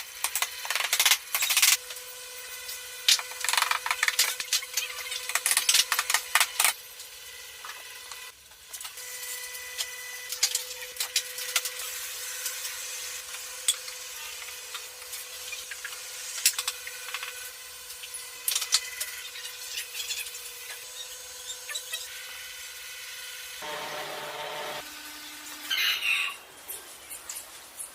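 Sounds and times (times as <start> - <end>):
small power tool humming: 1.6 - 25.8.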